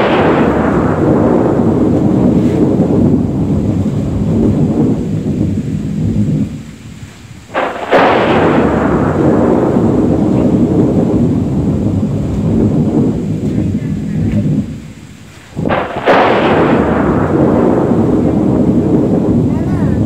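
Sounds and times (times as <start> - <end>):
rolling thunder rumble: 0.0 - 20.0
thunder crack: 0.0 - 20.0.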